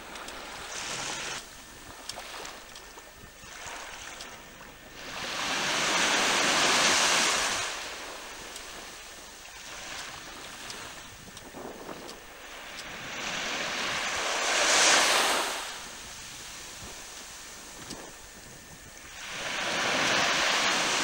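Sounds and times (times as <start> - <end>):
wind and water rushing hiss: 0.0 - 21.0.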